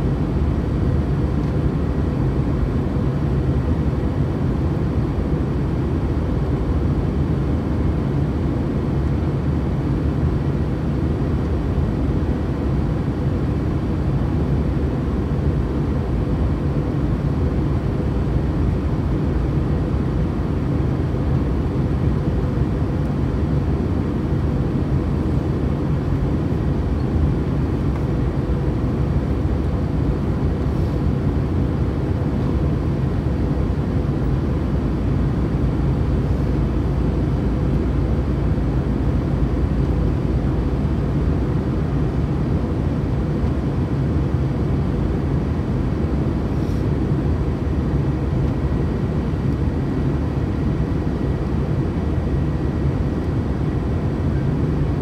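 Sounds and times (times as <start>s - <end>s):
airliner engines droning: 0.0s - 55.0s
faint steady hum: 0.0s - 55.0s.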